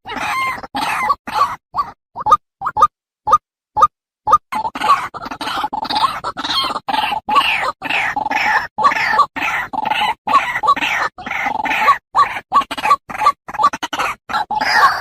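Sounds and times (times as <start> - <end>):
birds squawking: 0.1 - 2.0, 4.6 - 15.0.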